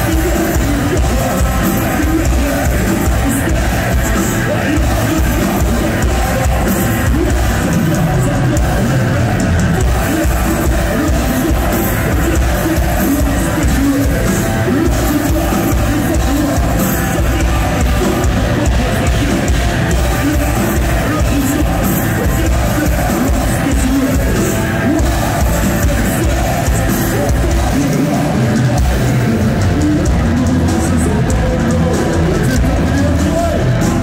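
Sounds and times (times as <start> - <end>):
distorted guitars: 0.0 - 34.0
heavy metal band playing live: 0.0 - 34.0
loud drums: 0.0 - 34.0
man singing: 0.0 - 34.0.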